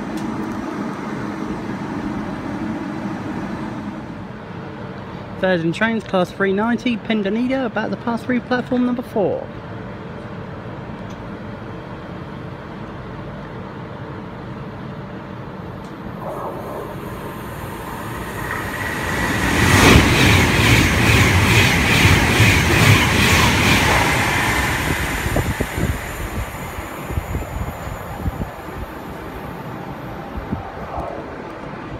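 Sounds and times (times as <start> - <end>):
express train passing at speed: 0.0 - 5.9, 9.4 - 31.9.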